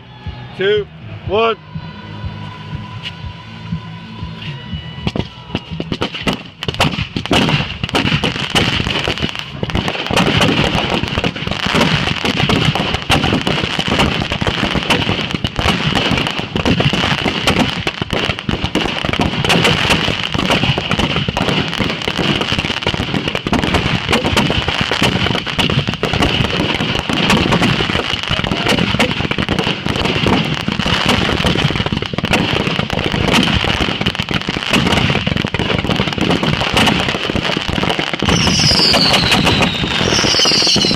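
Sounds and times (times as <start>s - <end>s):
fireworks bangs and crackles: 1.2s - 40.9s.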